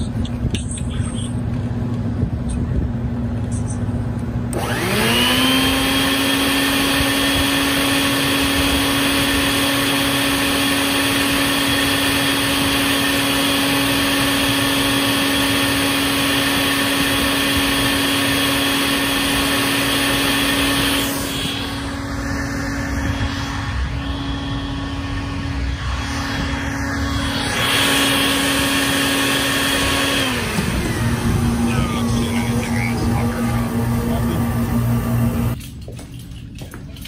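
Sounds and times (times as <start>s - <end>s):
electric blower motor whining: 4.0s - 35.6s.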